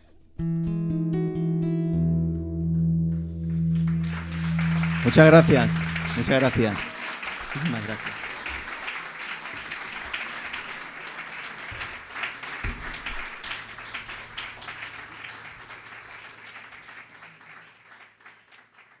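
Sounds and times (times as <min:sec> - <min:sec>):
audience applauding: 0:03.7 - 0:19.0.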